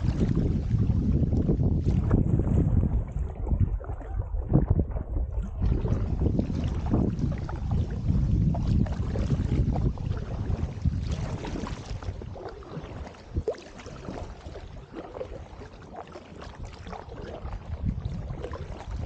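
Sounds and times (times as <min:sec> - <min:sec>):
wind buffeting microphone: 0:00.0 - 0:15.6, 0:16.4 - 0:19.0
paddle strokes splashing: 0:00.0 - 0:19.0.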